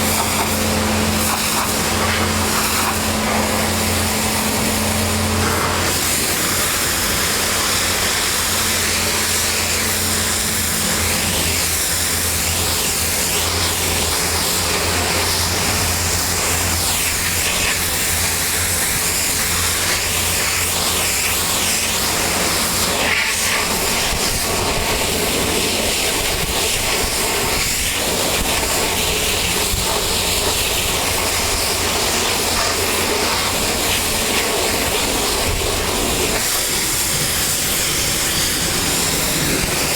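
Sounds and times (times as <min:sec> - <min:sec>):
motor humming: 0:00.0 - 0:39.9
pressure washer water jet hiss: 0:00.0 - 0:39.9.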